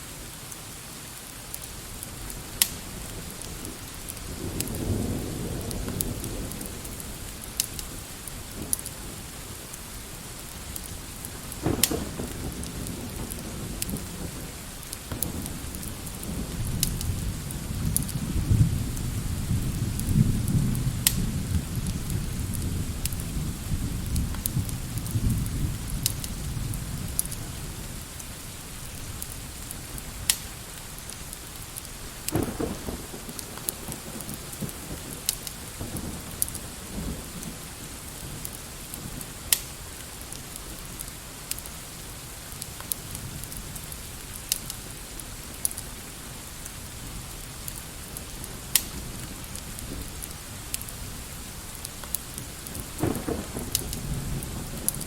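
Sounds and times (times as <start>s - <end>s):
steady rain: 0.0s - 55.0s
fireplace crackling and popping: 0.4s - 18.2s, 20.8s - 55.0s.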